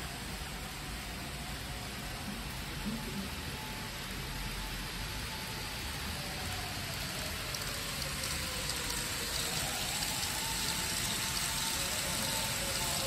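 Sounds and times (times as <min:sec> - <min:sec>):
faint motor whine: 0:00.0 - 0:13.0
model train wheels rolling: 0:00.0 - 0:13.0.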